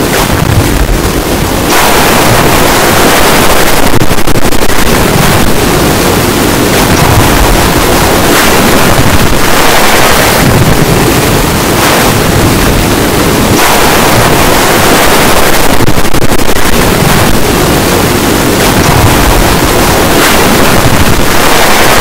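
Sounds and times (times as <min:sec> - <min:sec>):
harsh distorted noise: 0:00.0 - 0:22.0.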